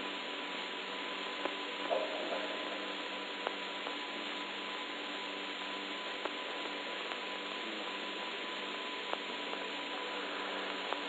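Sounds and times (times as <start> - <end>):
recording hiss and hum: 0.0 - 11.0.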